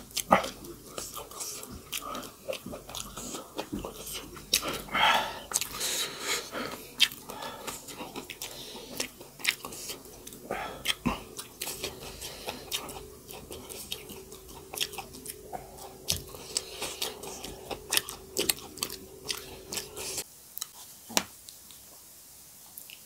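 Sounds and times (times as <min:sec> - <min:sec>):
steady background hum: 0:00.0 - 0:20.3
close chewing and lip-smacks: 0:00.0 - 0:20.8, 0:22.7 - 0:23.0.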